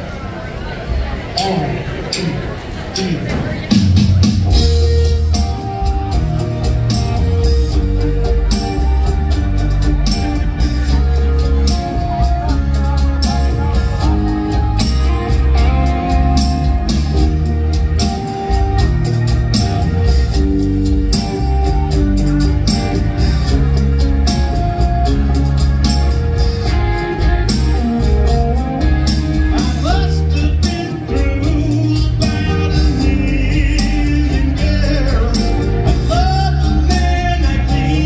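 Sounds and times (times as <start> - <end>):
keyboards: 0.0 - 38.0
drum kit steady beat: 3.0 - 38.0
bass guitar: 3.4 - 38.0
electric guitar: 3.4 - 38.0.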